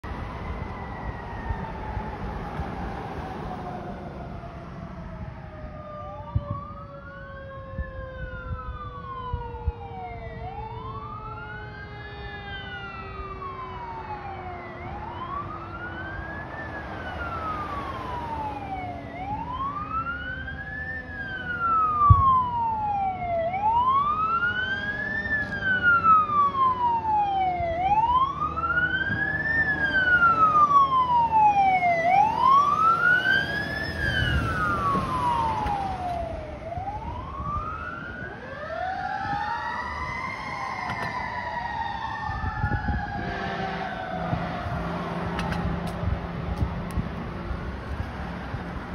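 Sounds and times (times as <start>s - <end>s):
fire truck siren wailing: 0.0s - 48.9s.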